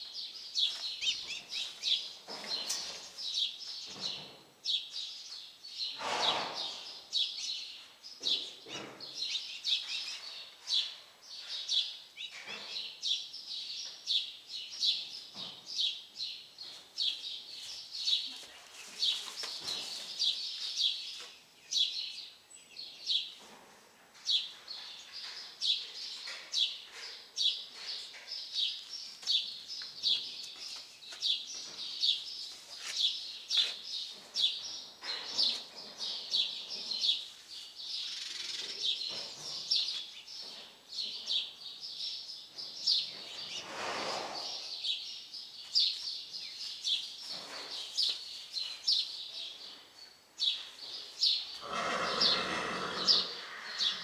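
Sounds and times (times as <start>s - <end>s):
bird chirping: 0.0s - 23.4s, 24.2s - 43.7s, 44.4s - 54.0s.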